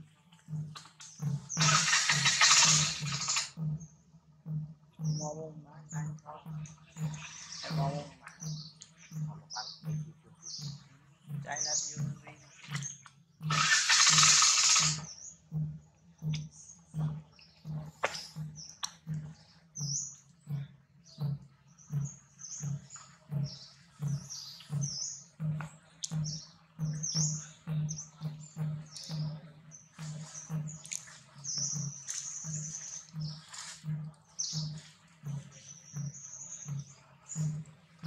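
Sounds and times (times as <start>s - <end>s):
steady low thump: 0.0s - 13.6s, 14.9s - 38.0s
birds chirping and twittering: 0.0s - 38.0s.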